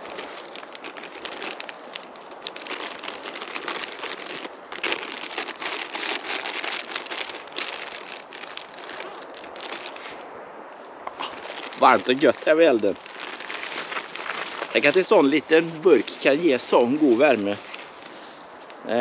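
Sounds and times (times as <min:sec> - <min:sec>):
plastic bag crinkling: 0:00.0 - 0:10.2, 0:11.1 - 0:18.4.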